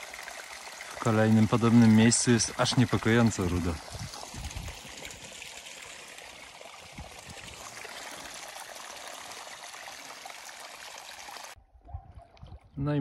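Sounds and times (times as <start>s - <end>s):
water trickling into a pool: 0.0s - 11.6s, 12.2s - 12.8s.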